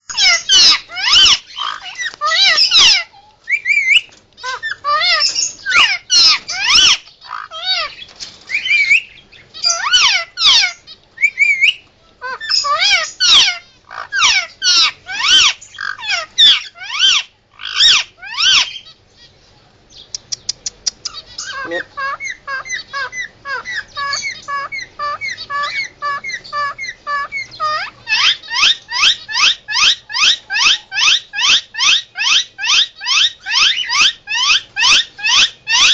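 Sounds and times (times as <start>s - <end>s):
soft repeated bird calls: 0.0s - 35.9s
parakeet screeching alarm calls: 0.1s - 19.3s, 21.1s - 35.9s.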